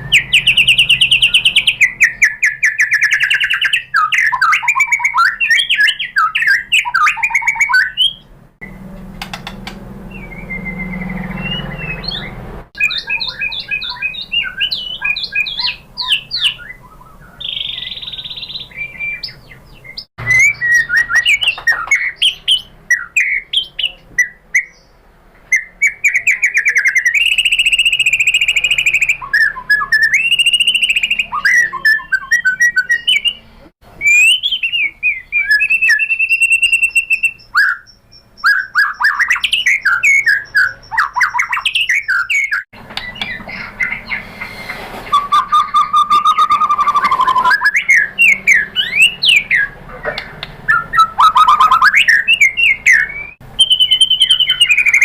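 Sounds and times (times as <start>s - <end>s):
songbird singing whistled phrases: 0.0s - 8.8s, 10.1s - 55.0s.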